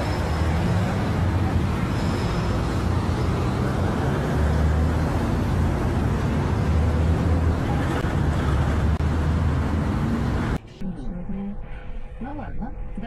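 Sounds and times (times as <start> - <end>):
road traffic rumble: 0.0 - 10.7.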